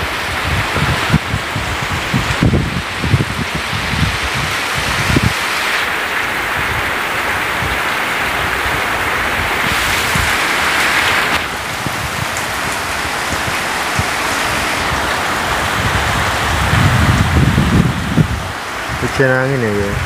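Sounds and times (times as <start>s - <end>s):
heavy rain: 0.0s - 20.0s
wind buffeting microphone: 0.0s - 20.0s.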